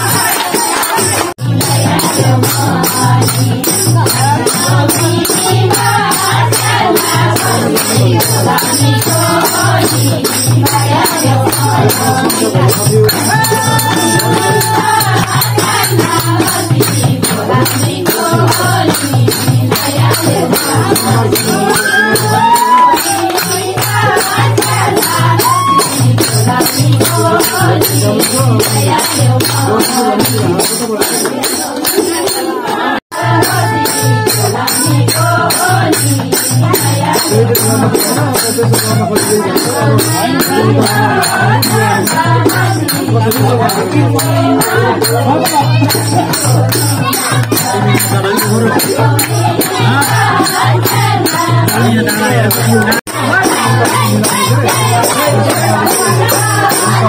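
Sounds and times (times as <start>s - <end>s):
jingling hand percussion: 0.0s - 57.0s
steady drum beat: 0.0s - 57.0s
voices singing devotional music: 0.0s - 57.0s.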